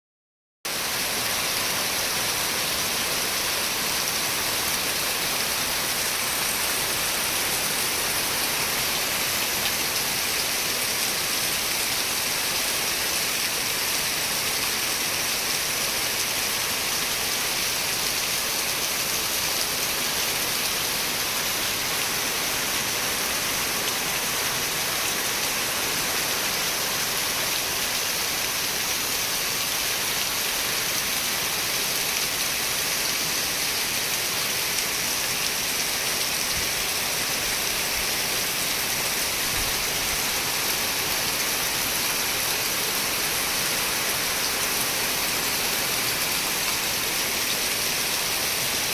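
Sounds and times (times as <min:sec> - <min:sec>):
steady rain: 0:00.7 - 0:48.9.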